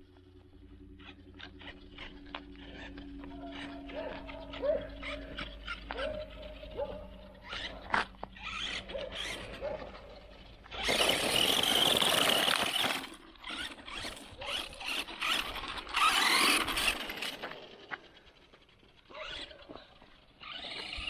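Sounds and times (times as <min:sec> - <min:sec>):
electric motor and gears whining: 0:00.0 - 0:21.0
tyres rushing on ground: 0:01.6 - 0:21.0.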